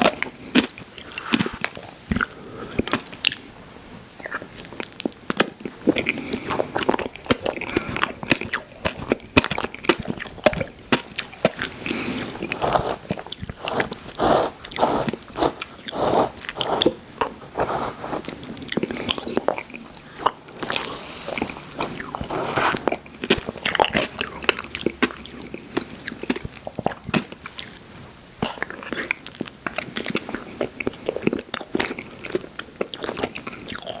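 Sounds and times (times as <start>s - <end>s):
person eating ice cream: 0.0s - 3.5s, 4.1s - 34.0s
wet smacking and chewing: 0.0s - 3.5s, 4.2s - 34.0s.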